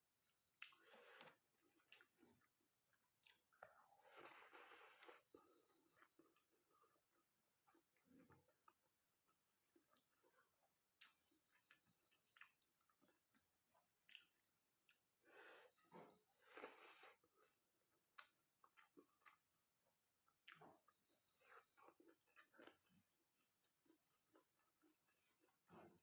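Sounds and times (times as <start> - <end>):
close chewing mouth sounds: 0.3 - 26.0.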